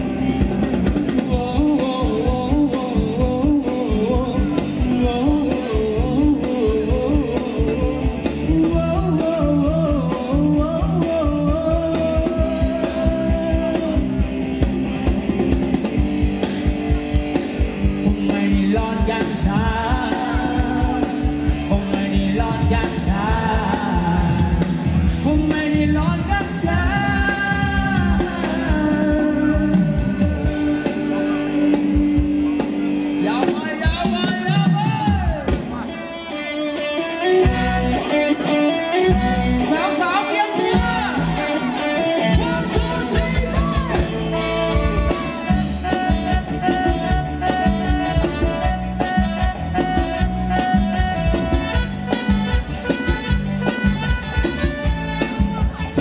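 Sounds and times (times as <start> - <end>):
steady drum beat: 0.0 - 35.9, 39.1 - 56.0
live band playing upbeat dance song: 0.0 - 56.0
person singing: 1.1 - 14.6, 18.0 - 35.8, 37.1 - 53.1.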